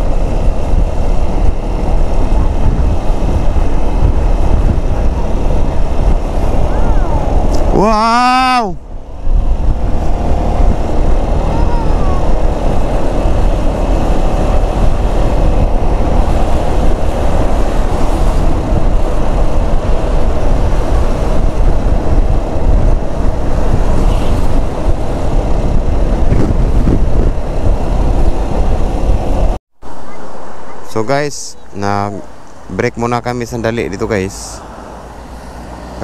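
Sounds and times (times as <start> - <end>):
scooter engine droning: 0.0 - 30.9
wind rushing over microphone: 0.0 - 36.0.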